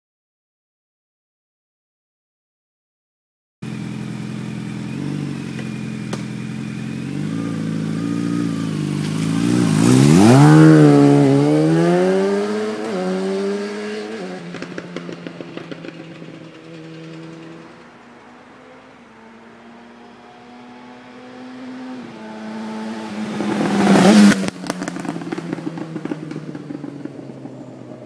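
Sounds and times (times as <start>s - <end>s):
motorcycle engine passing by: 3.6s - 28.0s.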